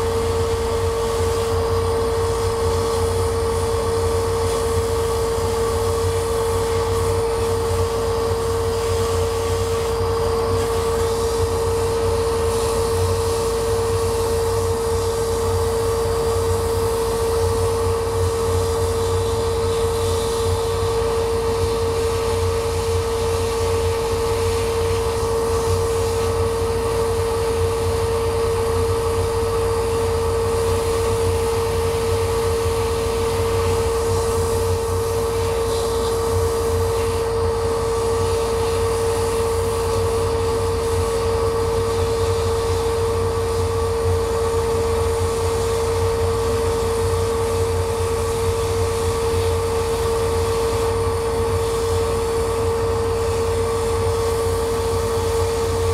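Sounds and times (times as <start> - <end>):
blower hiss: 0.0 - 55.9
laser cutter humming: 0.0 - 55.9.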